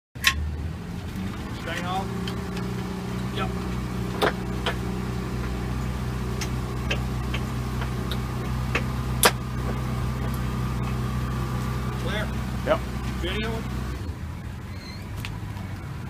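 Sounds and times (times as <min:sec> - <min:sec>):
engine idling: 0:00.2 - 0:16.0.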